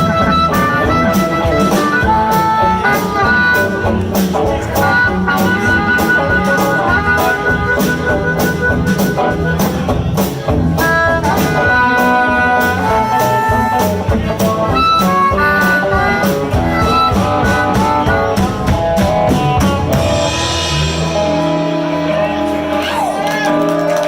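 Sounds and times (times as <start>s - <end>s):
live blues band playing: 0.0s - 24.0s
steady drum beat: 0.0s - 24.0s.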